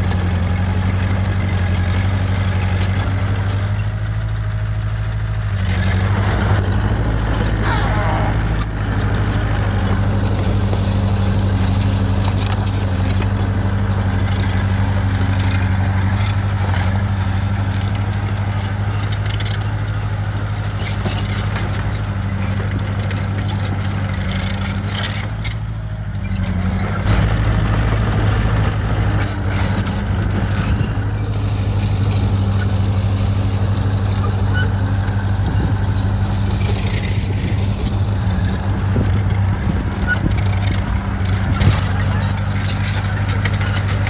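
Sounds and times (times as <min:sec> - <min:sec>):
bulldozer diesel engine running: 0:00.0 - 0:44.0
metal tracks clanking and rattling: 0:05.5 - 0:44.0.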